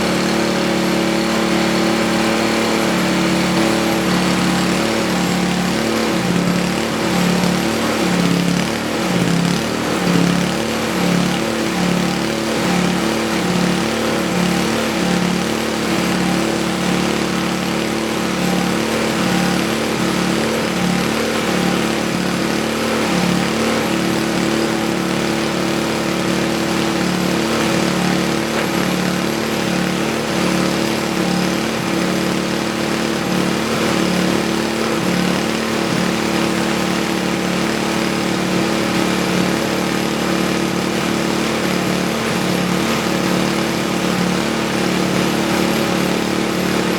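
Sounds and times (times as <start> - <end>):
snowblower engine running: 0.0 - 46.9.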